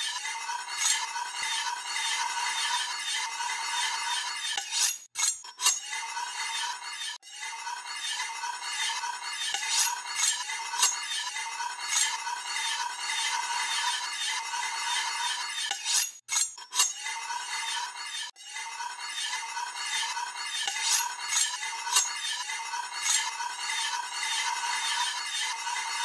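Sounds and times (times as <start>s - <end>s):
knife tip scraping a countertop: 0.0s - 26.0s.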